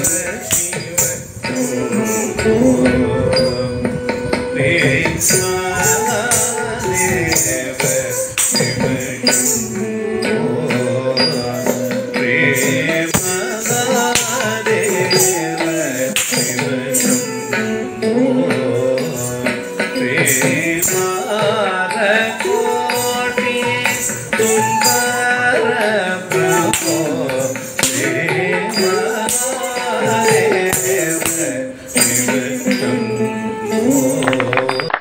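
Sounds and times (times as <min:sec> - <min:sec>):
jingling percussion: 0:00.0 - 0:35.0.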